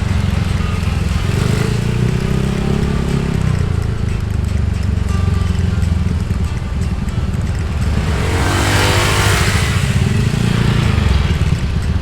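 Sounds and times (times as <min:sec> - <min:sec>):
motorbike engine running: 0:00.0 - 0:12.0
road and wind noise: 0:00.0 - 0:12.0.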